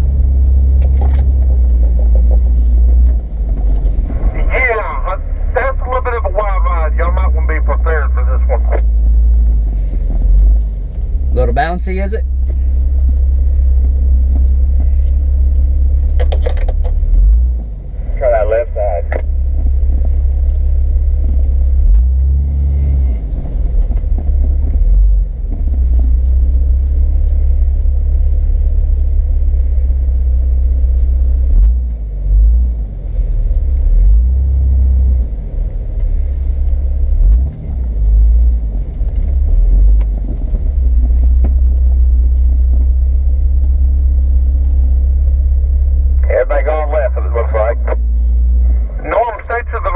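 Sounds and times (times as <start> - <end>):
off-road vehicle engine rumble: 0.0 - 49.9.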